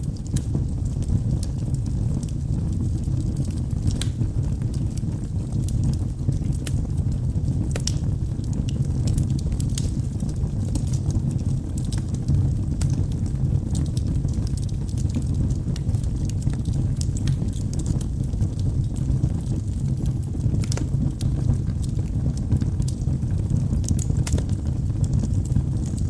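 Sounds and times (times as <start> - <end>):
logs burning in fireplace: 0.0 - 26.0.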